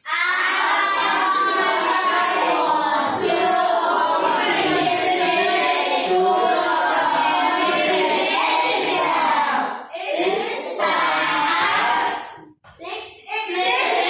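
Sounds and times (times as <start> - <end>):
children chanting in unison: 0.0 - 14.0.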